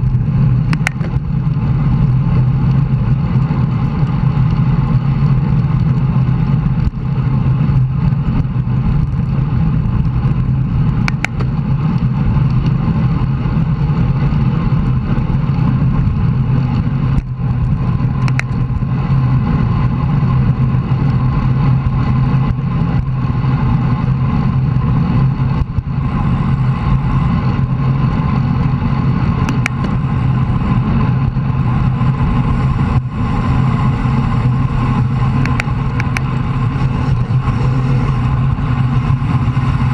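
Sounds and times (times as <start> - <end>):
road noise: 0.0 - 39.9
wind rush: 0.0 - 39.9.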